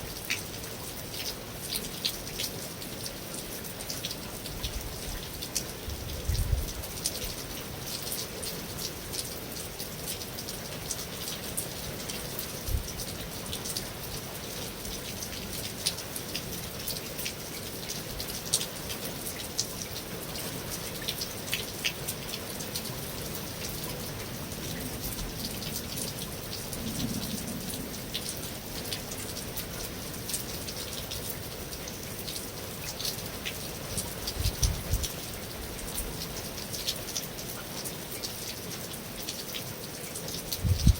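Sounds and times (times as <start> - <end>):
rain on a metal roof: 0.0 - 40.9.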